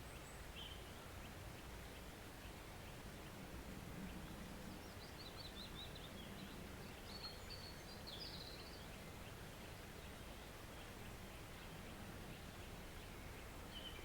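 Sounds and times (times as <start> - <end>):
small bird singing: 0.0 - 3.4, 4.0 - 14.0.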